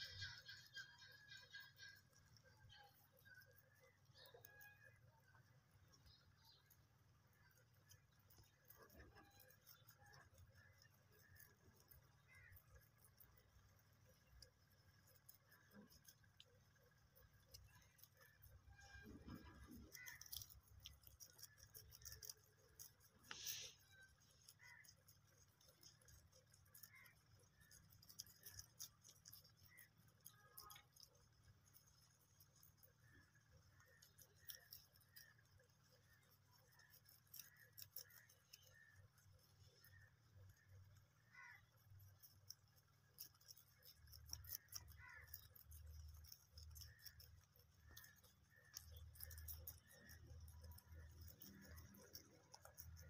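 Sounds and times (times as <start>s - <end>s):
rabbits nibbling grass: 0.0s - 53.0s.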